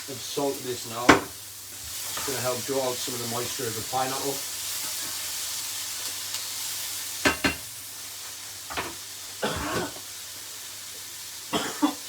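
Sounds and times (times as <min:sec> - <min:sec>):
pineapple sizzling in a frying pan: 0:00.0 - 0:12.0.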